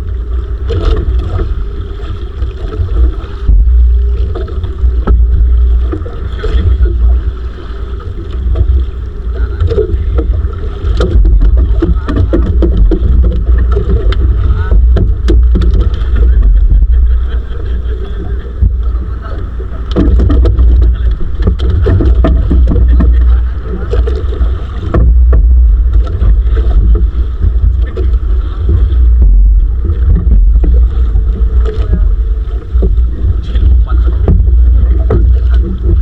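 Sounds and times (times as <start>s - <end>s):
boat knocks and clatter: 0.0s - 36.0s
wind rumbling on microphone: 0.0s - 36.0s.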